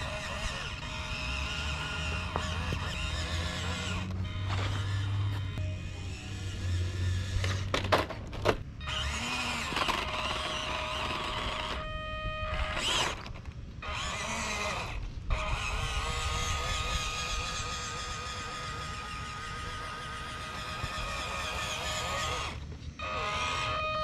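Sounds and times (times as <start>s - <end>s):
toy truck motor whining: 0.0s - 24.0s.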